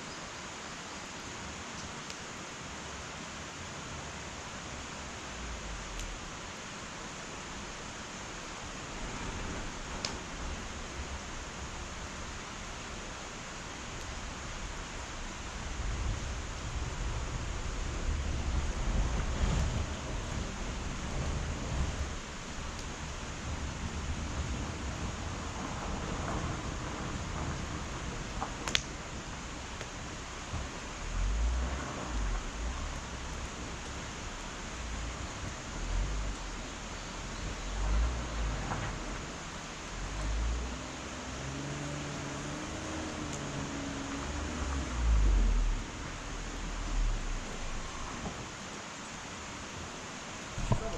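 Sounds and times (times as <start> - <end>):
fire crackles: 0.0 - 50.9
wood fire hissing: 0.0 - 50.9.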